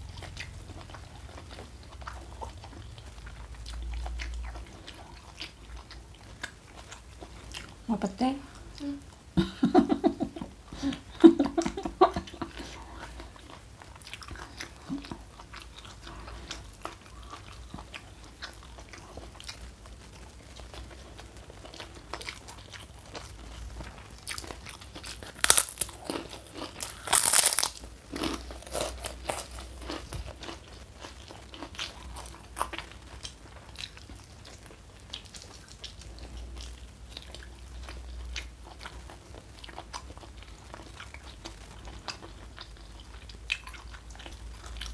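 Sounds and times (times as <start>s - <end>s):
chewing and crunching food: 0.0s - 44.9s.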